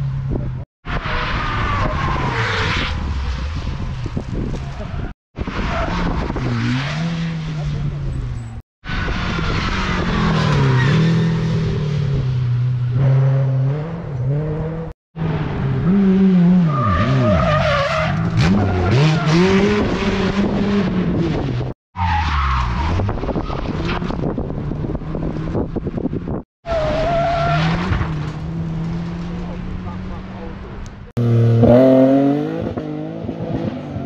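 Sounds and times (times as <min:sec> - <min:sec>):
rally car engines revving: 0:00.3 - 0:34.0.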